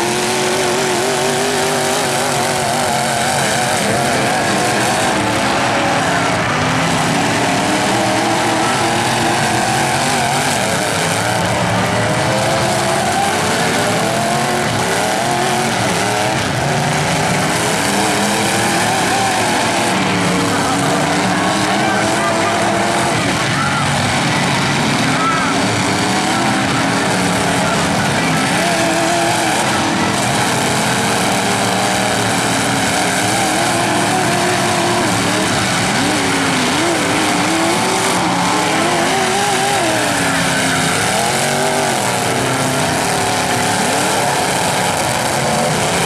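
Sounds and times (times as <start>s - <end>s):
truck engines revving: 0.0s - 46.0s.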